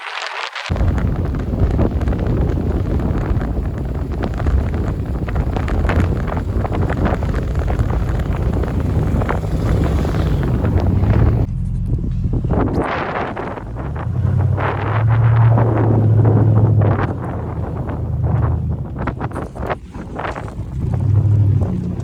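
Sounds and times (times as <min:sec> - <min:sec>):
wind buffeting microphone: 0:00.6 - 0:22.0
truck engine rumble: 0:00.7 - 0:22.0.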